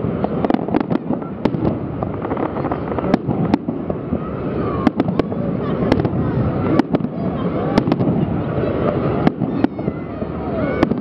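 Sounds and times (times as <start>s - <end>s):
din of firework bursts: 0.0s - 11.0s.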